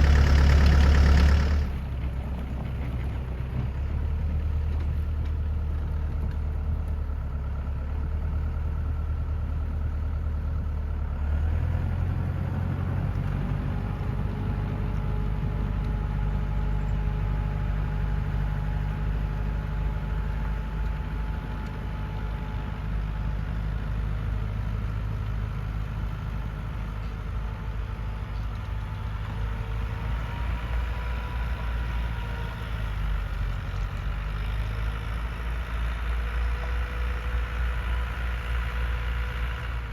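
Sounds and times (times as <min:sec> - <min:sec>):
tractor diesel engine: 0:00.0 - 0:39.9.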